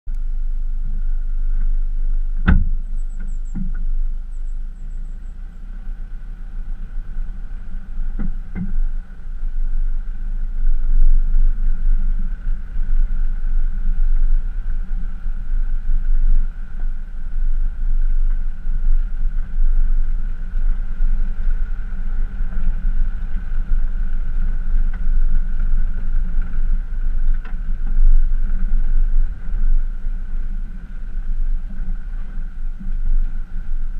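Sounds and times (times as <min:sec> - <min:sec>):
truck engine rumble: 0:00.1 - 0:33.9.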